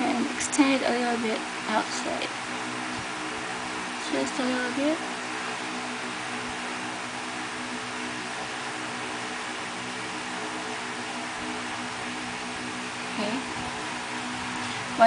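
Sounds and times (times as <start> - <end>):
electric fan hissing and humming: 0.0 - 15.0.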